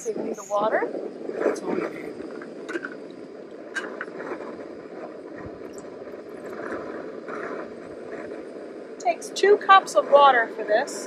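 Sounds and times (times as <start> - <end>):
gas stove hissing: 0.0 - 11.0.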